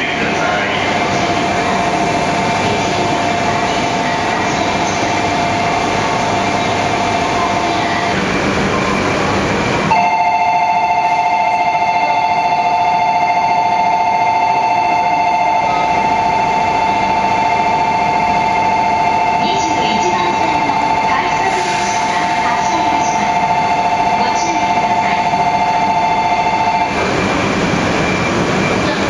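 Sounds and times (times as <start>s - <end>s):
station background noise: 0.0s - 29.0s
train equipment high whine: 0.0s - 29.0s.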